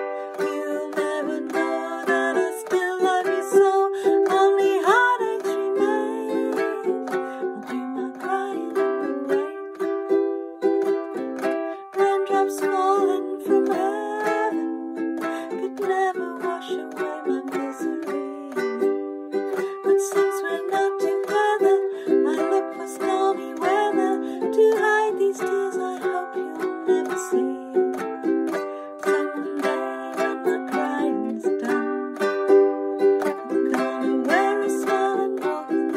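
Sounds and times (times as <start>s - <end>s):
woman singing: 0.0s - 10.2s, 10.8s - 35.9s
ukulele strumming: 0.0s - 35.9s.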